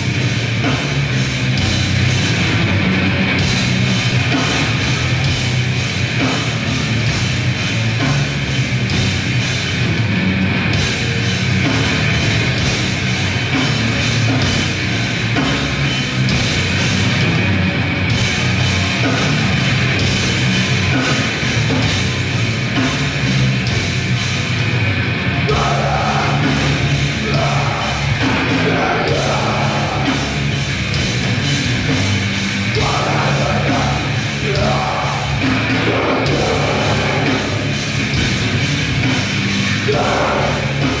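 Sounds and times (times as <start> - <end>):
bass guitar: 0.0 - 41.0
distorted guitar: 0.0 - 41.0
drum kit: 0.0 - 41.0.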